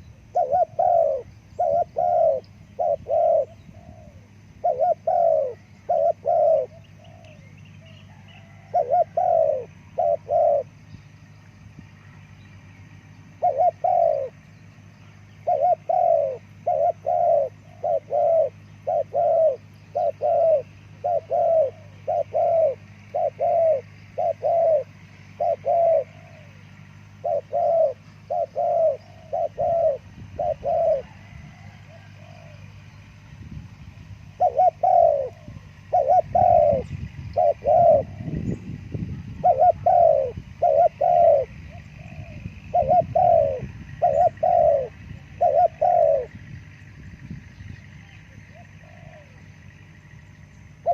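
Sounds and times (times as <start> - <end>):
dove cooing: 0.0 - 11.3, 12.1 - 50.9.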